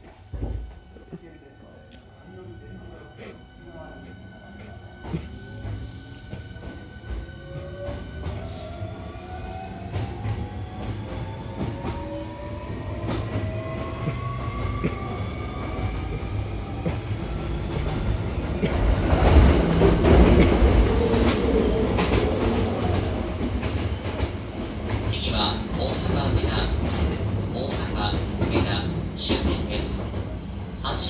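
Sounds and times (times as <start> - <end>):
train wheel rumble: 2.4 - 31.0.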